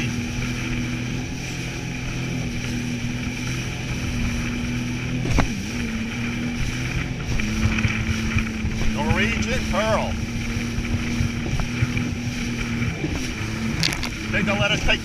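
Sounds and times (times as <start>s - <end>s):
jet ski engine running: 0.0s - 15.0s
wind and water rushing: 0.0s - 15.0s.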